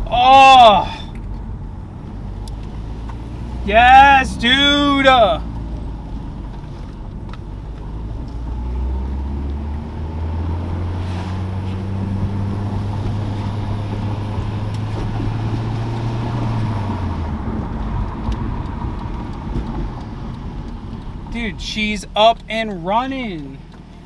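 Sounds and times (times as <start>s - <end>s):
car engine accelerating: 0.0s - 24.0s
road noise: 0.0s - 24.0s.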